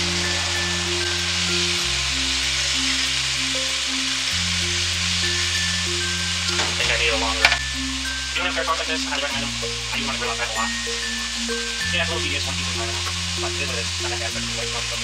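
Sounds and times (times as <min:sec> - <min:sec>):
chicken sizzling in a wok: 0:00.0 - 0:15.0.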